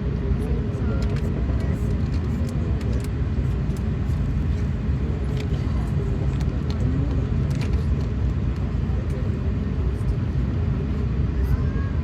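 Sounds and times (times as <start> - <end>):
faint engine hum: 0.0 - 12.0
low cabin rumble: 0.0 - 12.0.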